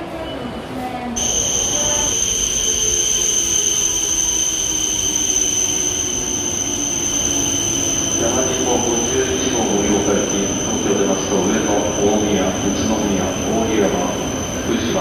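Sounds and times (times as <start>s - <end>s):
low train whine: 0.0s - 15.0s
train running noise: 0.0s - 15.0s
high-pitched train squeal: 0.1s - 15.0s.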